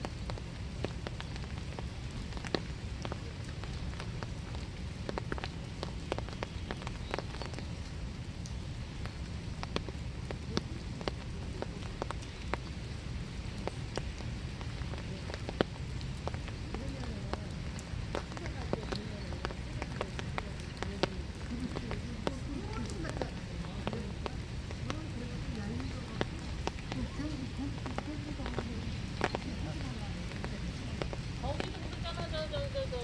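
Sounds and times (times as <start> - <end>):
raindrops tapping on surfaces: 0.0 - 33.0
steady rain hiss: 0.0 - 33.0.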